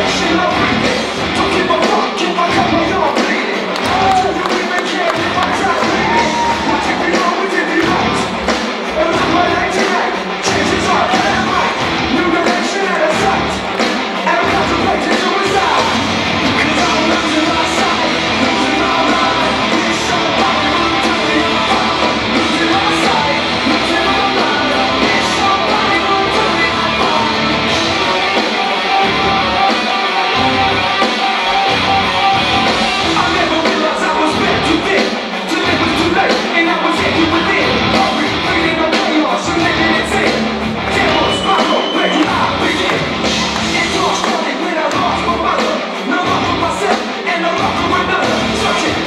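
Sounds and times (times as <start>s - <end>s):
rock music with singing and guitar: 0.0s - 49.0s.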